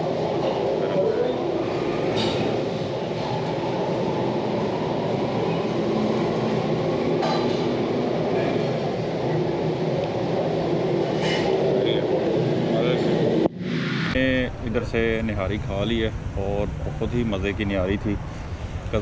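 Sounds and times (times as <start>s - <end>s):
restaurant room noise rumble: 0.0s - 19.0s.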